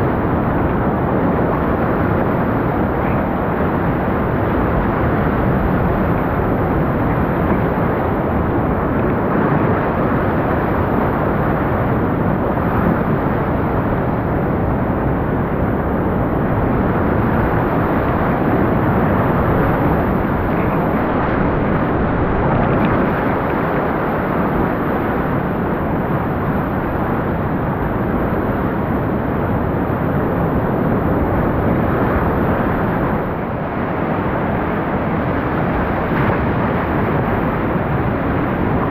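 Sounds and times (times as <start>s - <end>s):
whitewater rapids rushing: 0.0s - 38.9s.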